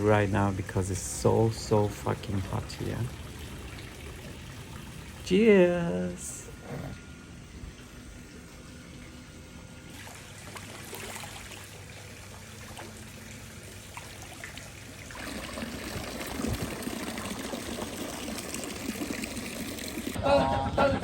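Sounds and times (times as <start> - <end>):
water trickling and pouring: 1.0 - 5.5, 7.7 - 20.2.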